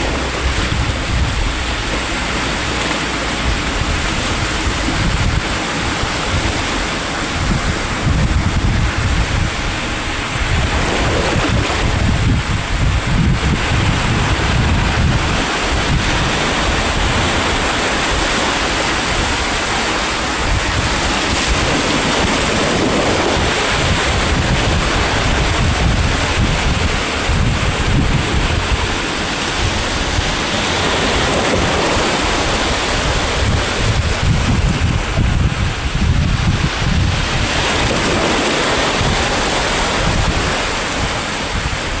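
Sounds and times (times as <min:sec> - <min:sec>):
sea waves washing in: 0:00.0 - 0:42.0
wind buffeting microphone: 0:00.0 - 0:42.0.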